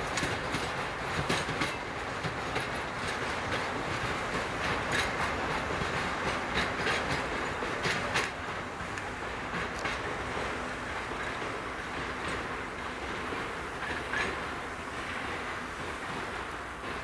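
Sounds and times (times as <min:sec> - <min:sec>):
train wheels rumbling: 0:00.0 - 0:17.0
wheels clacking on rail joints: 0:00.0 - 0:17.0.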